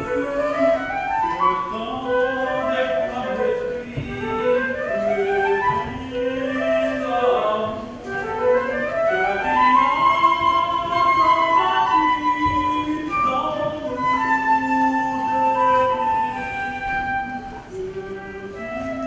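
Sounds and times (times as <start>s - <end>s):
flute playing a melody: 0.0s - 19.0s.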